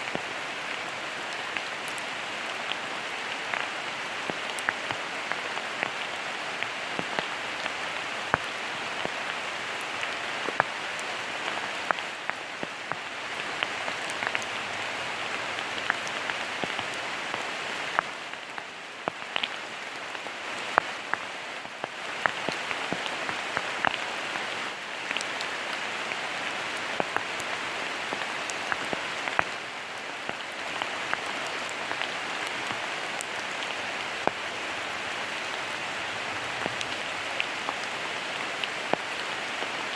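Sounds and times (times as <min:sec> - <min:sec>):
sharp raindrops striking nearby: 0:00.0 - 0:39.9
steady rain falling: 0:00.0 - 0:39.9.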